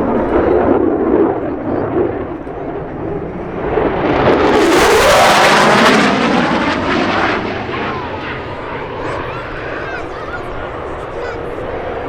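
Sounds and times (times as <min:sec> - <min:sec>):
aircraft making a fast pass: 0:00.0 - 0:12.0.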